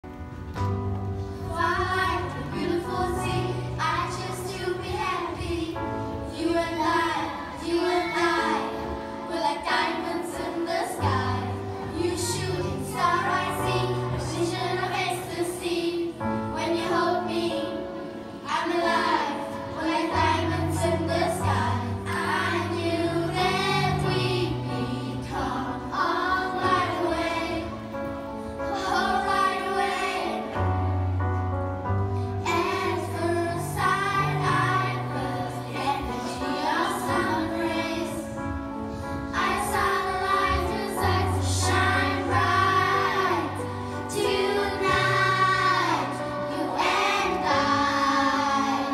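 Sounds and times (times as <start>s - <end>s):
children singing: 1.4s - 30.8s, 32.4s - 48.9s.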